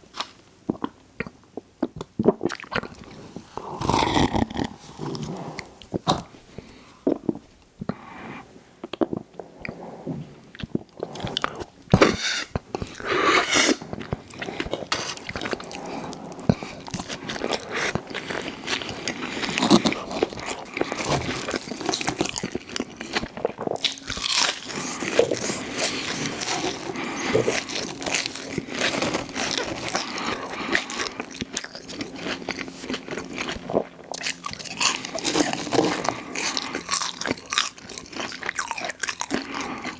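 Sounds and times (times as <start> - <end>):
person chewing crunchy food: 0.2 - 8.0, 10.5 - 39.9.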